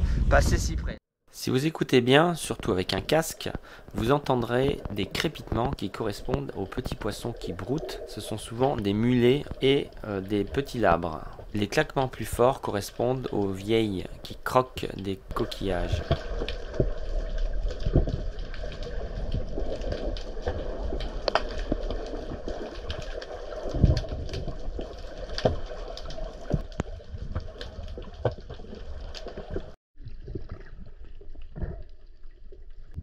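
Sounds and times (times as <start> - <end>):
underwater crackling of grazing fish: 2.9 - 33.0.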